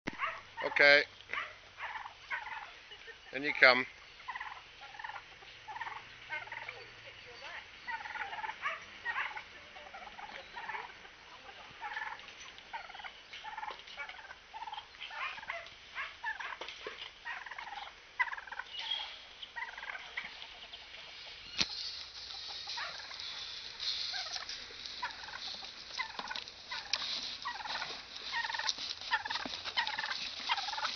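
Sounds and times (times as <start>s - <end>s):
turkeys calling: 0.1s - 30.9s.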